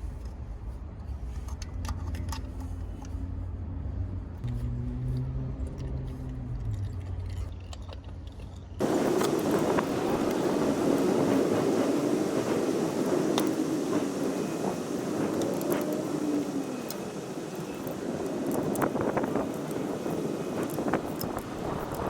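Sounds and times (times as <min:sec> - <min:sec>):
wind and road noise: 0:00.0 - 0:22.0.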